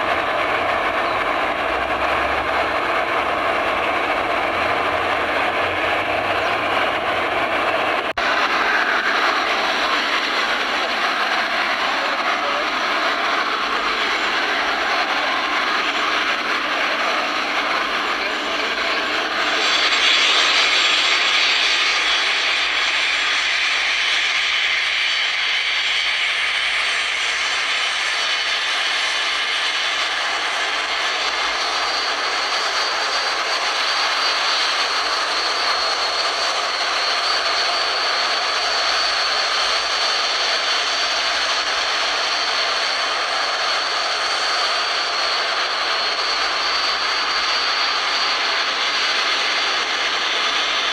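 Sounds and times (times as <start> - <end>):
jet engines taxiing: 0.0 - 50.9.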